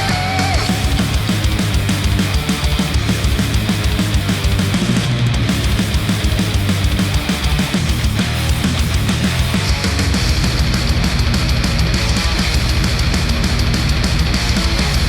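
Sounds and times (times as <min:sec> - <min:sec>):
heavy rock music through headphones: 0:00.0 - 0:15.0.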